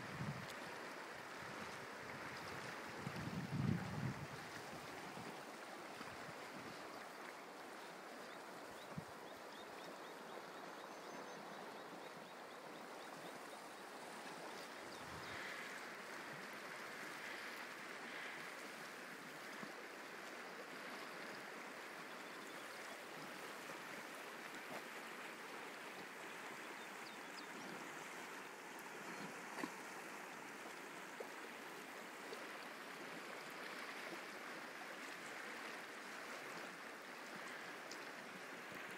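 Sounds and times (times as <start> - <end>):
river water rushing: 0.0 - 10.7, 11.4 - 38.9.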